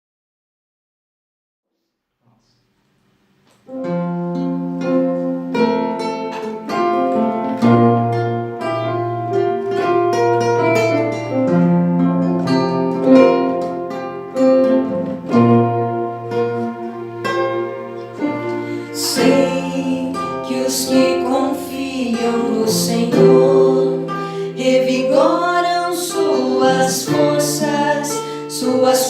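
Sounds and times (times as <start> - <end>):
slow instrumental on plucked strings: 3.7 - 29.0.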